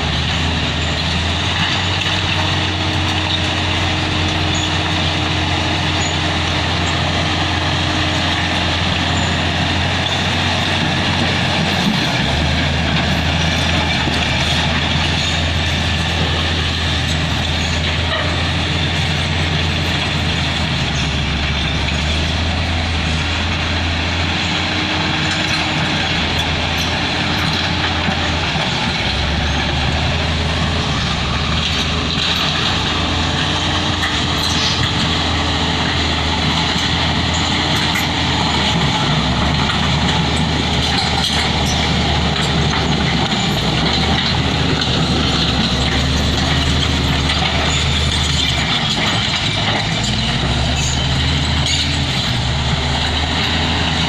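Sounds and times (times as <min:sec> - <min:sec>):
blade pushing rock and soil: 0:00.0 - 0:54.0
bulldozer diesel engine under load: 0:00.0 - 0:54.0.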